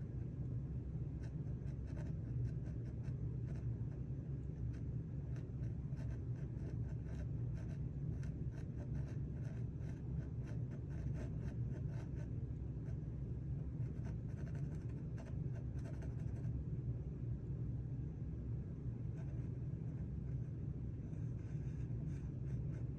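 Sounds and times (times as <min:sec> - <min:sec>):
low background hum: 0:00.0 - 0:22.9
pencil scratching on panel: 0:01.1 - 0:13.0, 0:13.8 - 0:16.5, 0:19.1 - 0:22.9.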